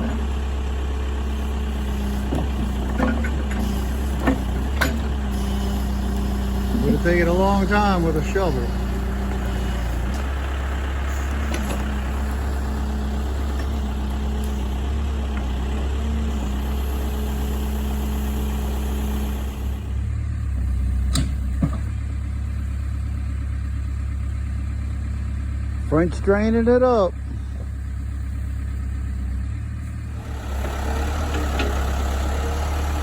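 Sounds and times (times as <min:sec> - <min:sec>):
digging work noise: 0:00.0 - 0:22.8, 0:25.7 - 0:33.0
backhoe engine running: 0:00.0 - 0:33.0.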